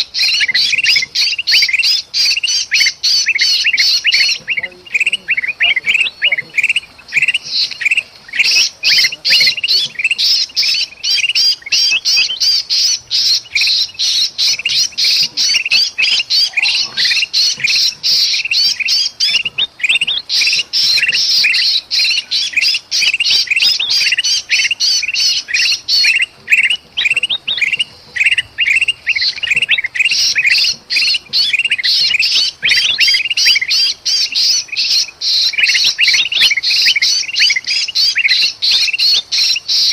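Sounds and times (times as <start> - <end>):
bird distress calls: 0.0 - 39.9
bulbuls harsh chirps: 0.0 - 39.9.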